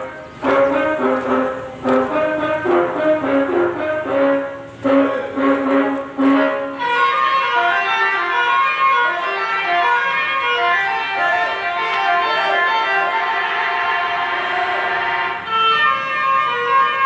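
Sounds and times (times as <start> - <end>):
musical bus horn tune: 0.0 - 17.0.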